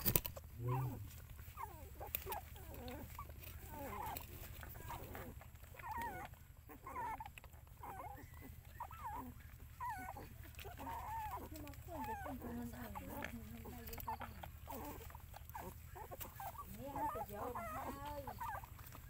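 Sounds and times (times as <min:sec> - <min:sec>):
puppies whimpering and squeaking: 0:00.0 - 0:19.0.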